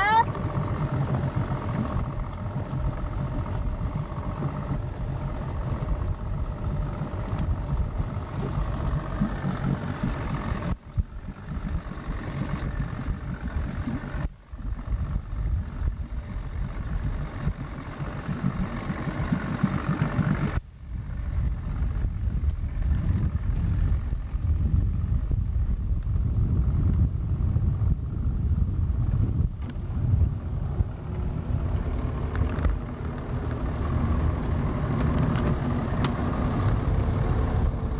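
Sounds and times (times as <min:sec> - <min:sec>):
motorboat engine idling: 0:00.0 - 0:37.9.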